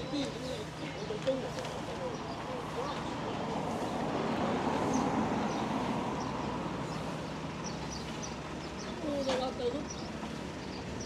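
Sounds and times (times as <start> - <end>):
passing road vehicle: 0.0 - 11.0.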